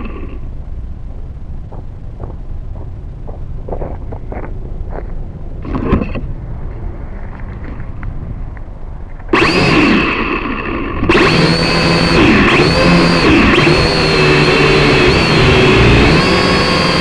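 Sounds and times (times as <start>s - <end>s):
drone motors whining: 0.0s - 8.1s, 9.0s - 17.0s.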